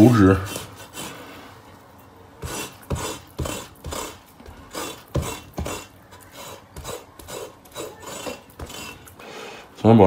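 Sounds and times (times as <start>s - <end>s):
cleaver scraping pig skin: 0.0s - 1.4s, 2.4s - 9.5s.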